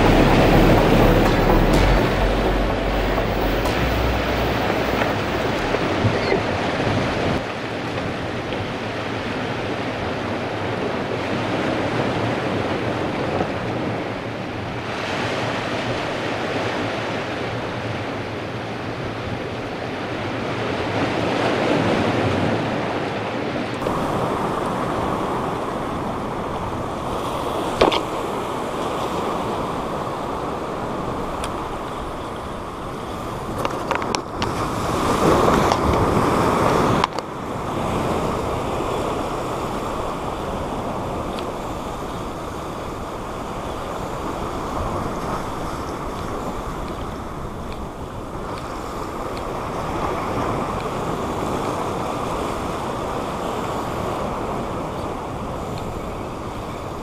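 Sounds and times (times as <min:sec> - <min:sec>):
surf washing over rocks: 0:00.0 - 0:57.0.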